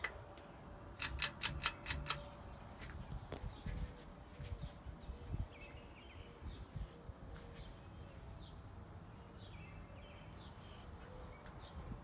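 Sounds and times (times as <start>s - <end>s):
small birds chirping: 1.5s - 12.0s.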